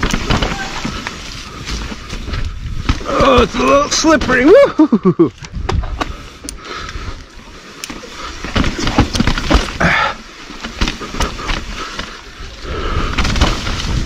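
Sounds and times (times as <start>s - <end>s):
bike rattling over rough ground: 0.0s - 14.0s.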